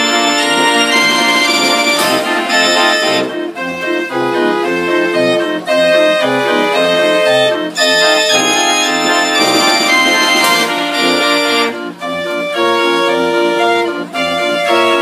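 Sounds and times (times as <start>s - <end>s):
fair organ playing oom-pah tune: 0.0s - 15.0s.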